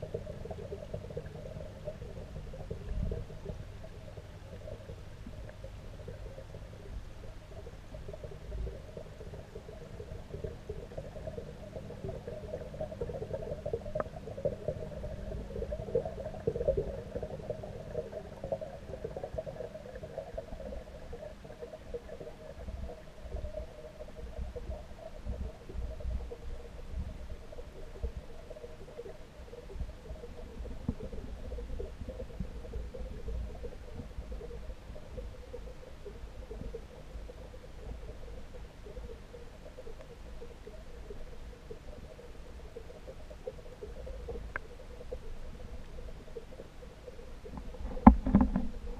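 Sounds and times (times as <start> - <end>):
muffled underwater rumble: 0.0 - 48.9.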